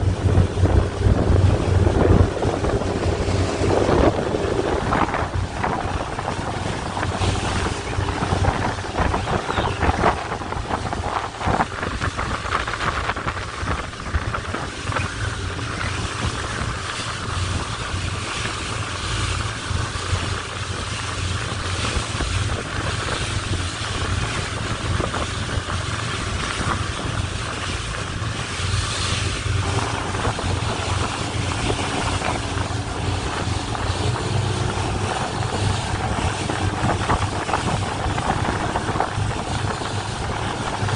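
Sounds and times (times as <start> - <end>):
outboard engines droning: 0.0 - 40.9
water rushing past hull: 0.0 - 40.9
wind noise on microphone: 0.0 - 40.9.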